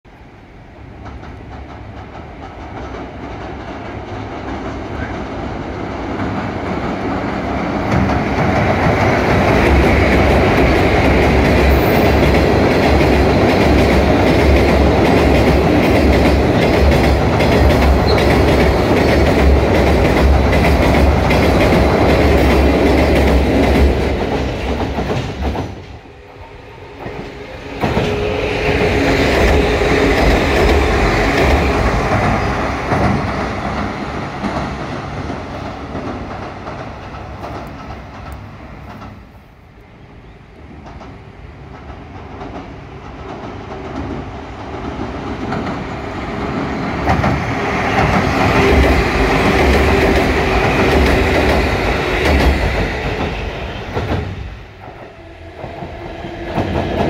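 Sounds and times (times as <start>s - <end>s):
train wheels clacking on bridge: 0.8s - 39.4s, 40.6s - 57.0s.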